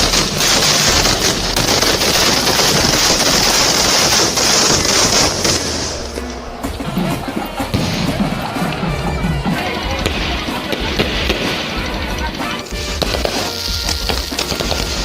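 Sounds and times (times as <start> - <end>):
firecrackers banging rapidly: 0.0 - 15.0.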